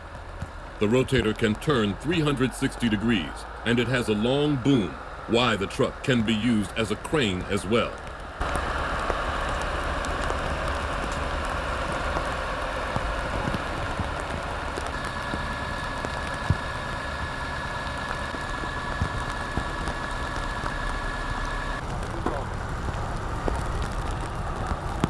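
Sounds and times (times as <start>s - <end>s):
truck engine rumble and hiss: 0.0s - 25.0s
thin steady whine: 0.7s - 25.0s.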